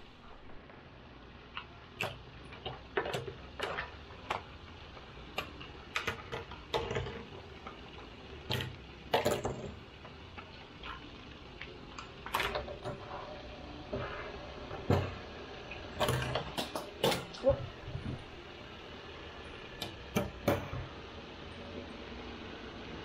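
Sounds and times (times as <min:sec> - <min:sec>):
fidget spinners set on wooden table: 0:00.4 - 0:23.0.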